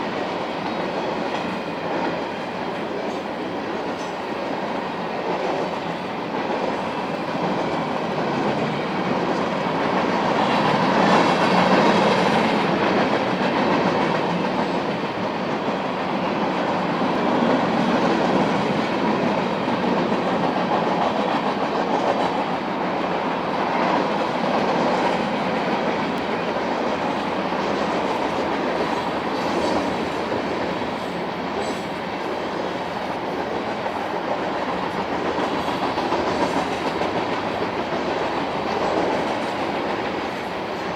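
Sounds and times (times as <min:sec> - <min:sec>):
freight train cars rolling on rails: 0:00.0 - 0:40.9.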